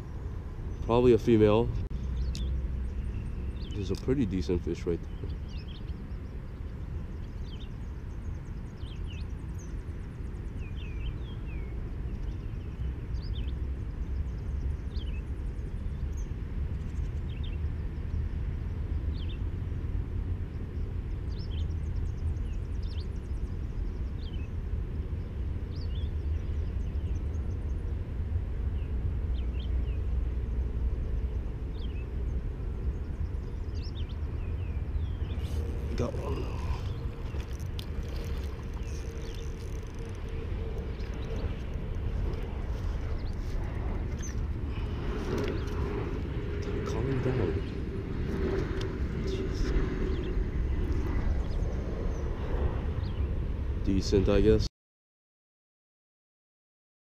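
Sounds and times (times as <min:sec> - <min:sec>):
birds chirping: 0:00.0 - 0:18.4, 0:25.2 - 0:28.0, 0:28.7 - 0:54.7
low outdoor rumble: 0:00.0 - 0:54.7.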